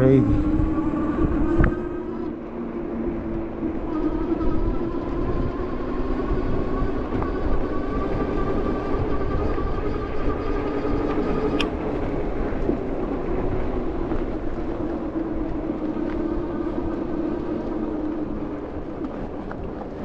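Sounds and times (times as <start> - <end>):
mechanical drone: 0.0 - 20.0
wind buffeting microphone: 0.0 - 20.0.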